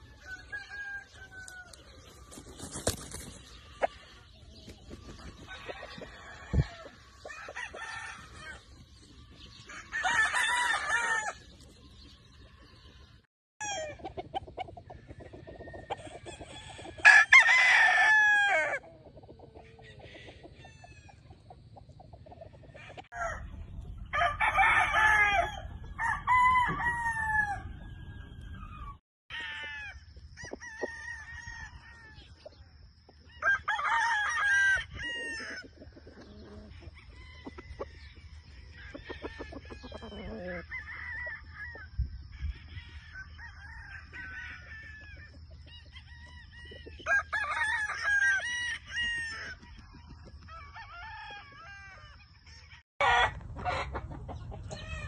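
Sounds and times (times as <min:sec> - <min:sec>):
roosters crowing: 0:00.0 - 0:21.3, 0:22.5 - 0:55.0.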